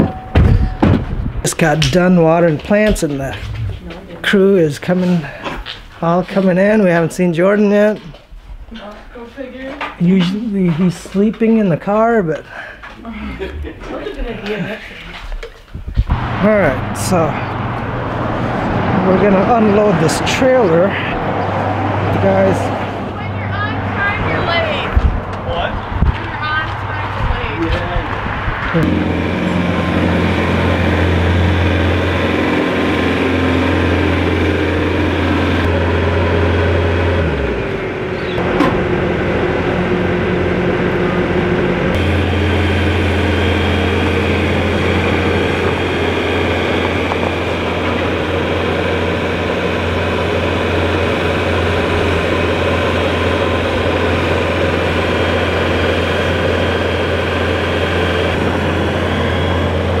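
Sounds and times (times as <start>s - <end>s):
heavy vehicle engine humming: 0.0s - 4.4s, 16.1s - 60.0s.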